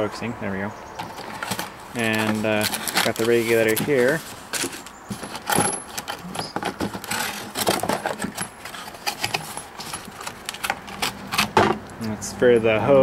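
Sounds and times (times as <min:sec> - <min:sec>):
cardboard packaging rustling: 0:01.0 - 0:11.8.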